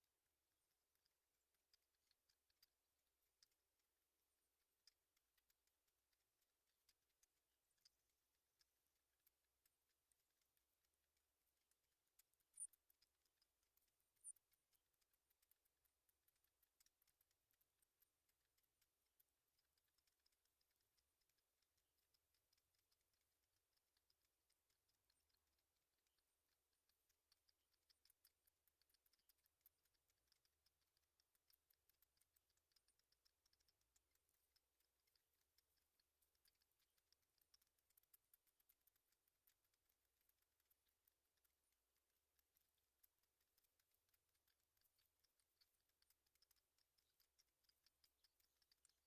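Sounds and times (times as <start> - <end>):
faint tiny clicks: 0.9 - 49.0.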